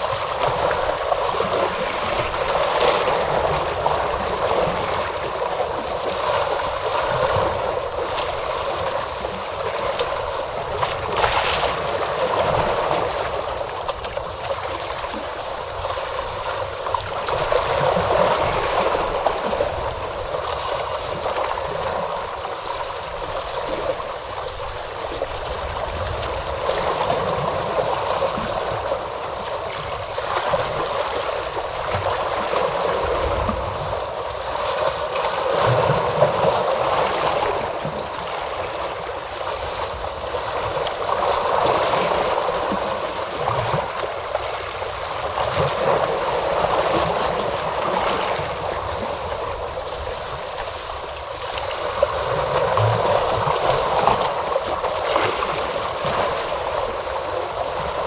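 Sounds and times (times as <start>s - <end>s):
ocean surf washing onto shore: 0.0s - 58.0s.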